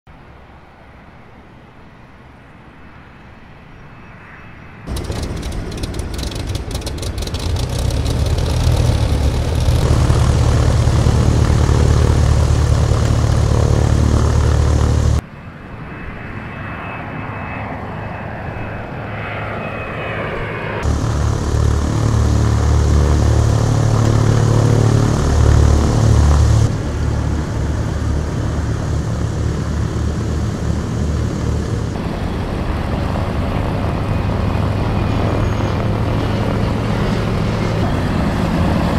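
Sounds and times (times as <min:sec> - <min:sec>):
propeller aircraft engines: 0:00.2 - 0:38.9.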